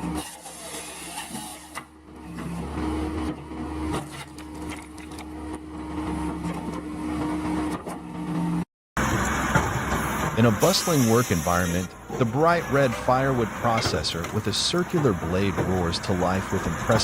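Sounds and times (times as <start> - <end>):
firewood processor engine humming: 0.0 - 17.0.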